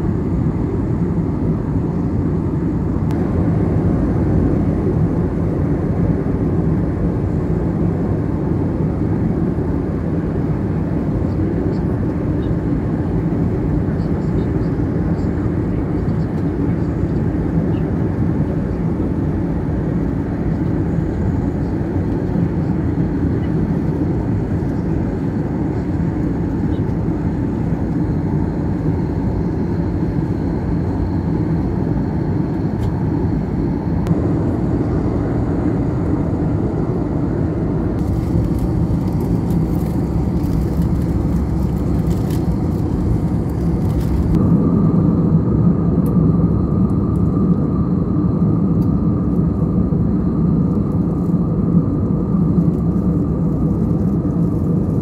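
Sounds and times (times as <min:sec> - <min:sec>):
airplane cabin drone: 0:00.0 - 0:55.0
steady high whine: 0:00.0 - 0:55.0.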